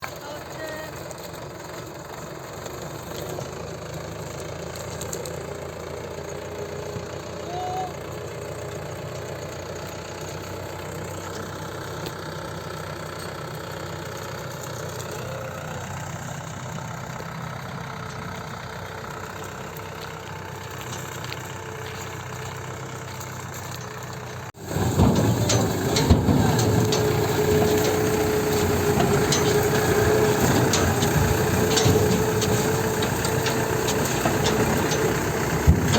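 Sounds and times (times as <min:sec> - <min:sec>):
engine rattling and knocks: 0:00.0 - 0:35.9
tractor diesel engine running: 0:00.0 - 0:35.9.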